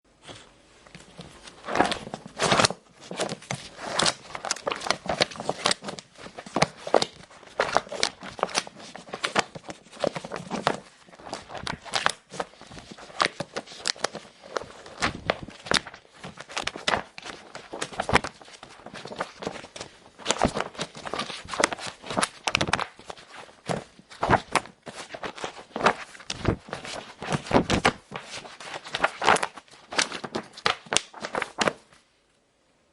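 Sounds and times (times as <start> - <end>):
book pages rustling: 0.2 - 32.1.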